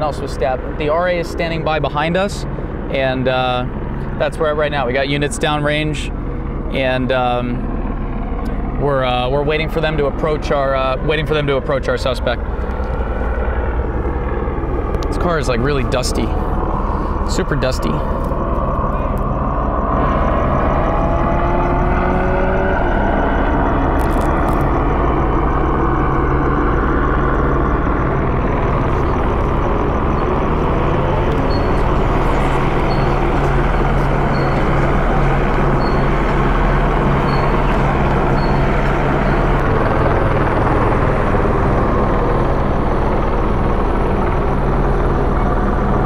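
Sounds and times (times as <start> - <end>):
helicopter hovering: 0.0 - 46.0.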